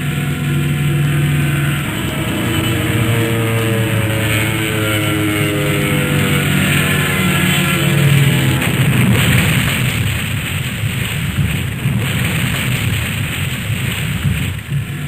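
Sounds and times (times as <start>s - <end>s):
car engine accelerating: 0.0s - 15.0s
steady rushing noise: 0.0s - 15.0s.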